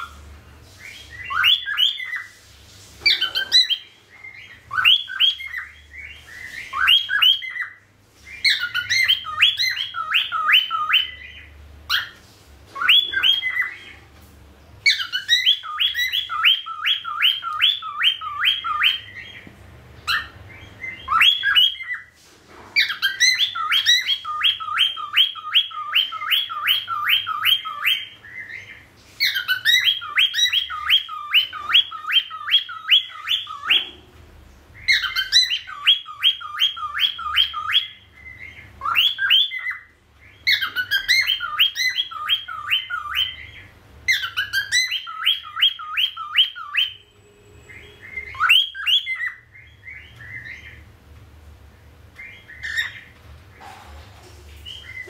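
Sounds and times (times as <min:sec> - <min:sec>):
cockatiel whistling: 0:00.8 - 0:02.3, 0:03.0 - 0:13.9, 0:14.8 - 0:19.4, 0:20.0 - 0:22.1, 0:22.8 - 0:34.0, 0:34.8 - 0:50.8, 0:52.2 - 0:53.1.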